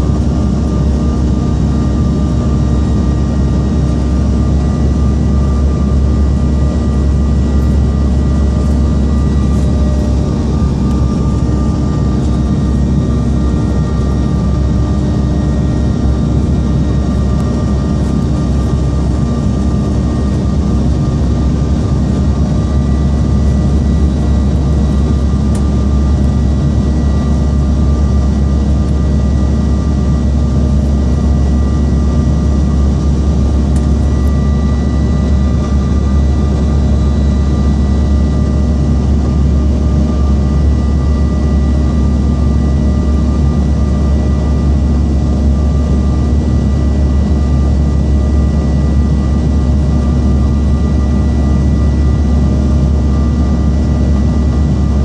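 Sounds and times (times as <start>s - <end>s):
aircraft cabin rumble: 0.0s - 55.0s
thin steady whines: 0.0s - 55.0s.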